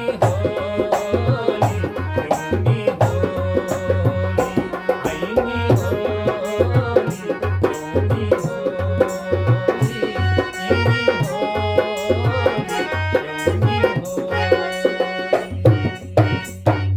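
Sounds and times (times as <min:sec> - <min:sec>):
harmonium melody: 0:00.0 - 0:16.9.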